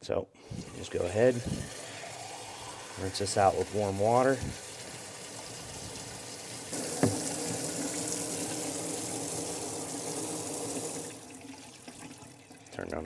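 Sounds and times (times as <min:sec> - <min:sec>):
faucet water running into plastic: 0:00.4 - 0:13.0.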